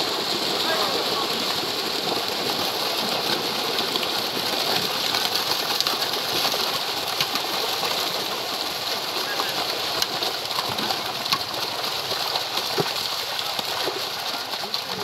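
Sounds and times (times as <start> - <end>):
fish thrashing and splashing: 0.0 - 15.0.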